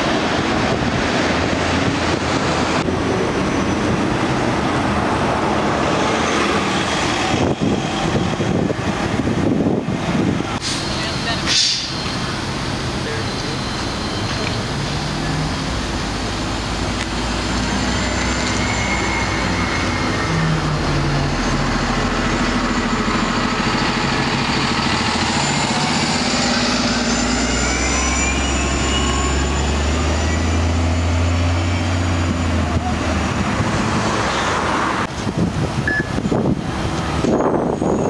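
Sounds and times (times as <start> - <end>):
bus engine droning: 0.0 - 38.0
street traffic: 0.0 - 38.0.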